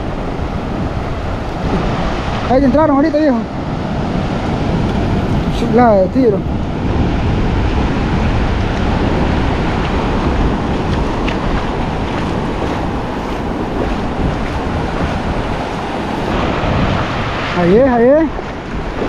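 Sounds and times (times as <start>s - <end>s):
ocean surf on sandy beach: 0.0s - 19.0s.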